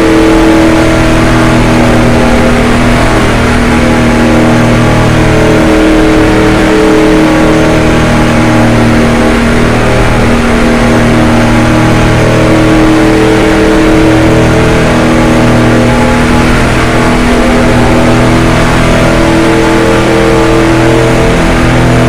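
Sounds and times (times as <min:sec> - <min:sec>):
race car engine at high speed: 0:00.0 - 0:22.0.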